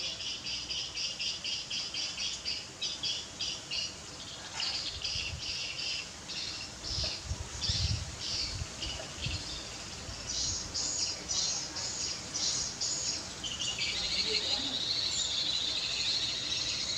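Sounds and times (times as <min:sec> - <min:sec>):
buzzy chirping calls: 0:00.0 - 0:16.9.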